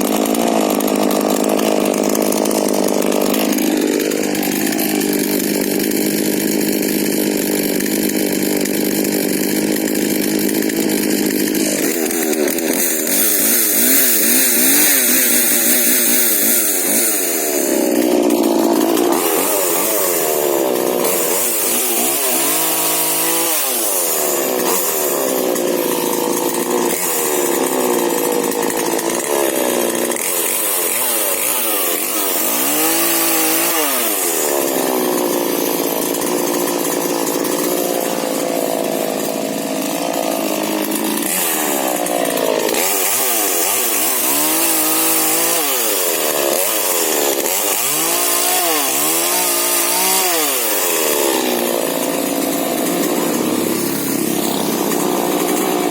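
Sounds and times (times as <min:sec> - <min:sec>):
chainsaw engine revving: 0:00.0 - 0:55.9.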